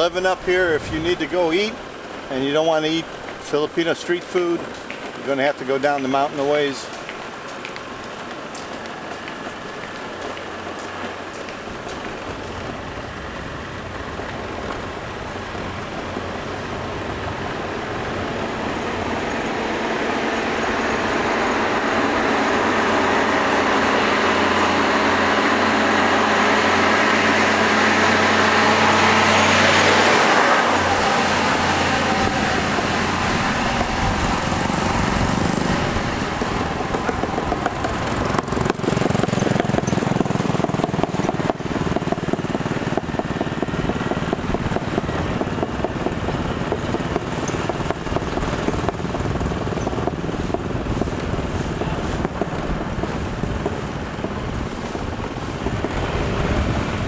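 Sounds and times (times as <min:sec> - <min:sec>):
truck passing on road: 0:00.0 - 0:57.0.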